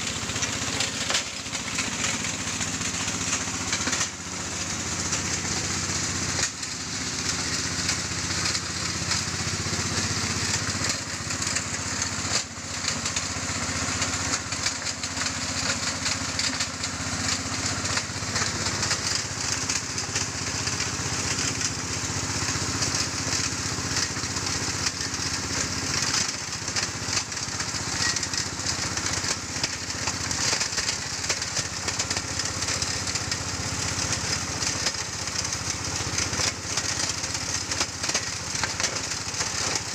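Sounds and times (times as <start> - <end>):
rock crushing grind: 0.0 - 21.9, 22.8 - 39.9
engine drone: 0.0 - 39.9.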